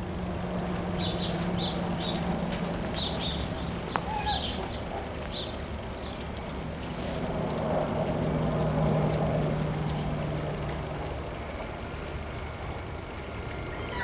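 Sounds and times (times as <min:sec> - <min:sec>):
steady engine hum: 0:00.0 - 0:14.0.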